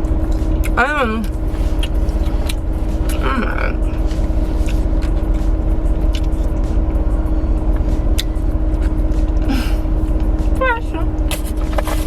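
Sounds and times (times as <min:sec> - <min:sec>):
air-conditioning blower: 0:00.0 - 0:12.0
car engine idling: 0:00.0 - 0:12.0.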